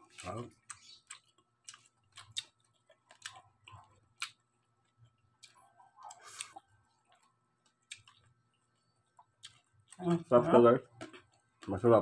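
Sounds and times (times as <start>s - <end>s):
chewing crispy pork crackling: 0.0s - 12.0s.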